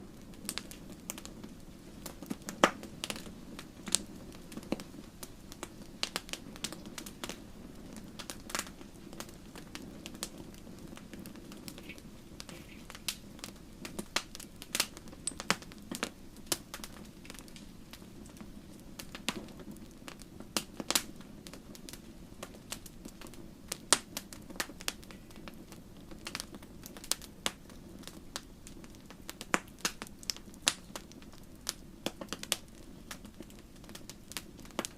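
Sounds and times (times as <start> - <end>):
low rumble of burning: 0.0 - 34.9
wood fire crackling and popping: 0.0 - 34.9.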